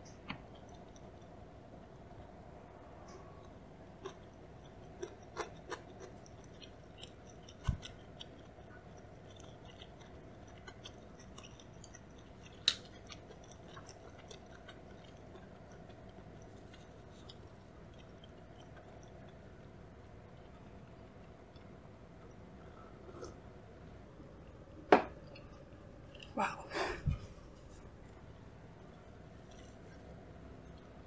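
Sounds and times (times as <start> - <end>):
faint steady hum: 0.0 - 31.0
chewing clicks: 0.1 - 2.4, 3.0 - 23.4, 28.0 - 31.0.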